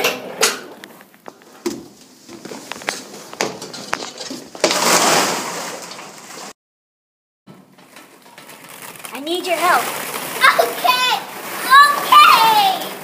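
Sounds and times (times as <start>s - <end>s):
plastic balls rustling and clattering: 0.8s - 6.5s, 7.6s - 13.0s.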